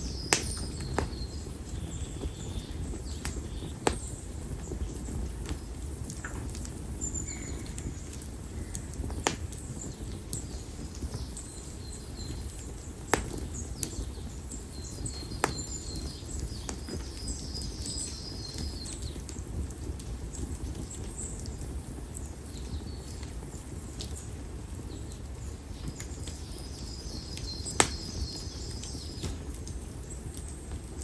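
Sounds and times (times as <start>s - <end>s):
campfire flame rushing: 0.0s - 31.0s
firewood crackling pops: 0.0s - 31.0s
small birds chirping: 0.0s - 31.0s.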